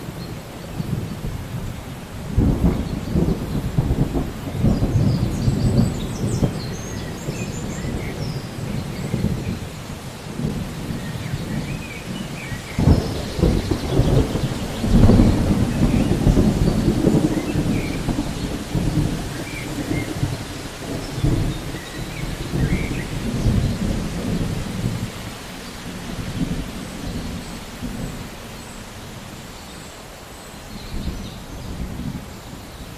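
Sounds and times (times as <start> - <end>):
steady rain: 0.0 - 32.9
thunder rumbling: 0.8 - 29.4.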